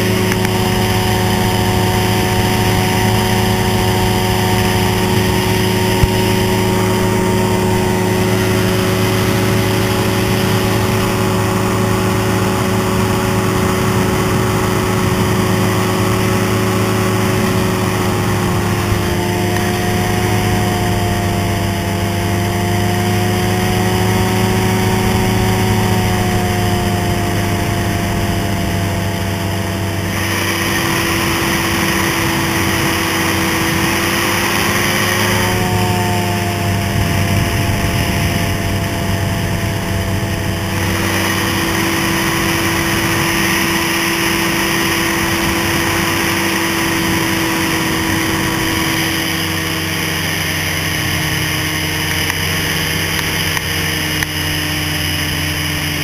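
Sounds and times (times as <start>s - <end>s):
aircraft engine running: 0.0s - 56.0s
wind rushing over microphone: 0.0s - 56.0s.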